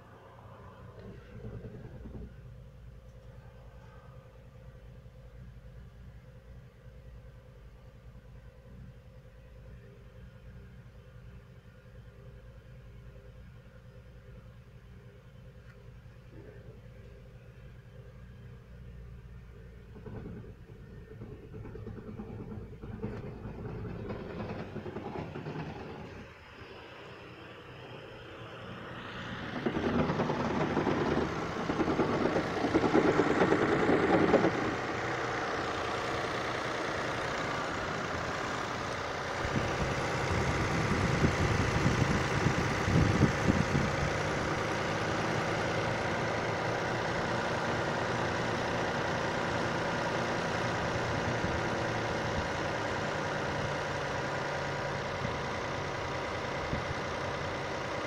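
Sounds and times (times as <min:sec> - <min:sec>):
car engine running unevenly: 0:00.0 - 0:58.0.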